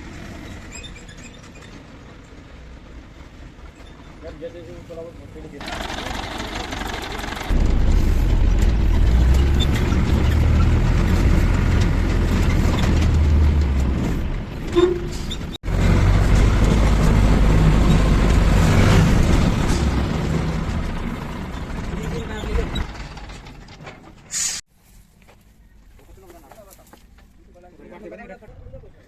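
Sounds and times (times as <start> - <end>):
diesel engine rumbling: 0.0 - 24.6.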